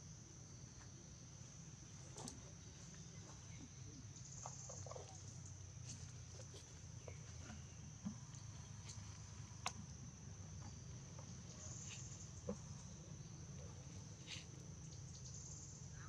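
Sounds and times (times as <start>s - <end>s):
forest insects droning: 0.0s - 16.0s.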